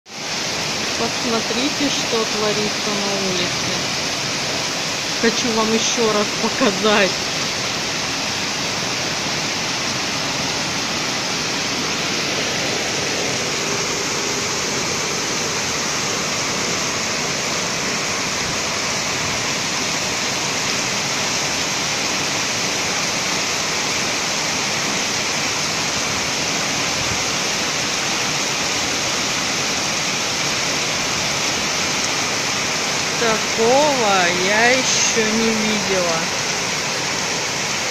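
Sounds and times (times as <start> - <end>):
torrential rain pouring: 0.1 - 37.9.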